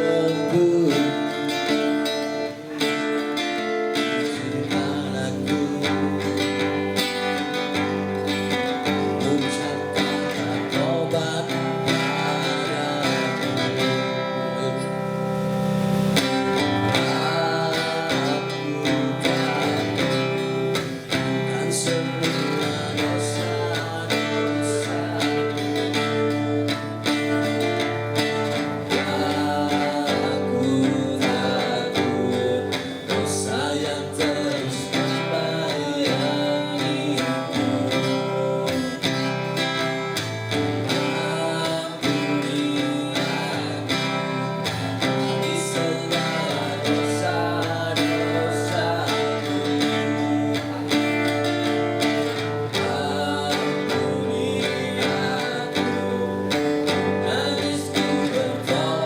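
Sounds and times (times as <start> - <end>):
acoustic band music: 0.0 - 59.0
strummed acoustic guitar: 0.0 - 59.0.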